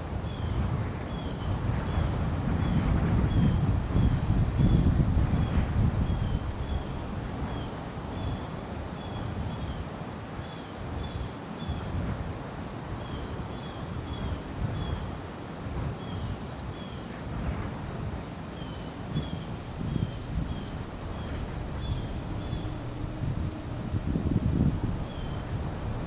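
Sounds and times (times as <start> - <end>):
wind gusting over microphone: 0.0 - 26.0.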